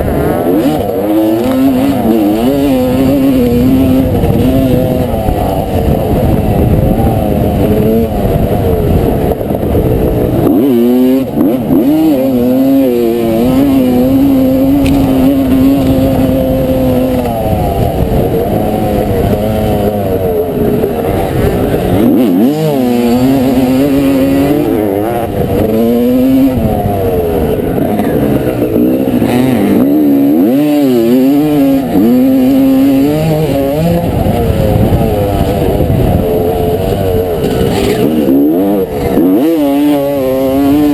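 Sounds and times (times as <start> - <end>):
motorcycle engine revving: 0.0 - 40.9
wind on microphone: 0.0 - 40.9.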